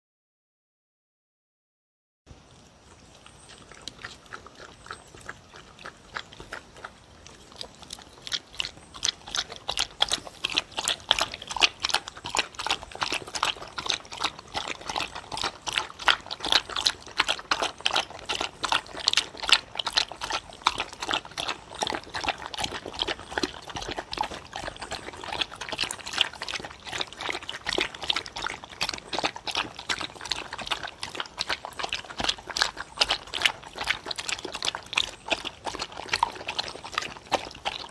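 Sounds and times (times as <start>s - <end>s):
dogs lapping and slurping food: 2.4s - 37.9s.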